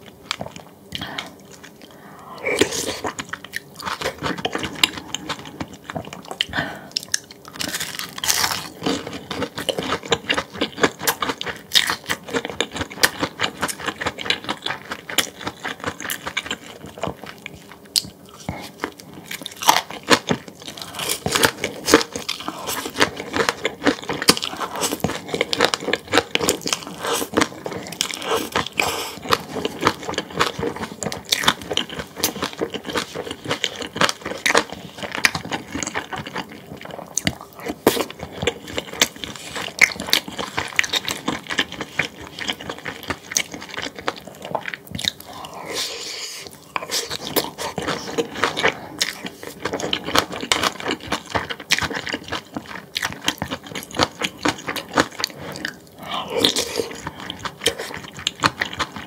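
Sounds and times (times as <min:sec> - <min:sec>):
chewing with crunches: 0:00.0 - 0:59.0.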